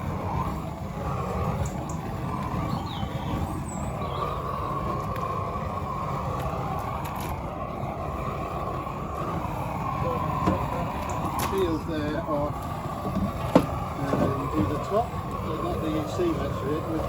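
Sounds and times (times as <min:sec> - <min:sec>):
gas torch burning: 0:00.0 - 0:17.0.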